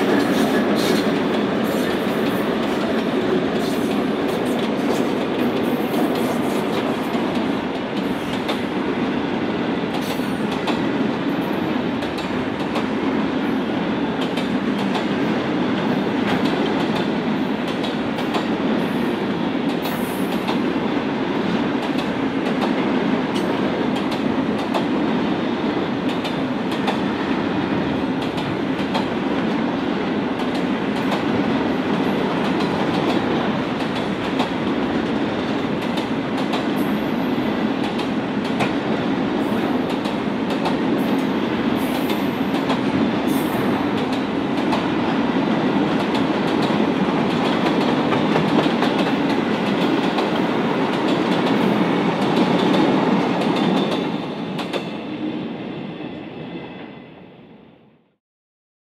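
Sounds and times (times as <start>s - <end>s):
clicks of wheels on rail: 0.0s - 8.7s, 9.9s - 13.0s, 14.2s - 18.9s, 19.6s - 20.7s, 21.4s - 25.0s, 25.7s - 27.1s, 28.2s - 29.6s, 30.4s - 55.0s
train wheels rumbling on rail: 0.0s - 57.3s.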